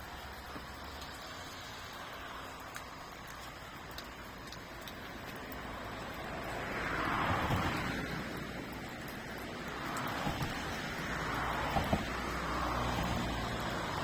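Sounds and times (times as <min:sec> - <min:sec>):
car passing on road: 0:00.0 - 0:14.0.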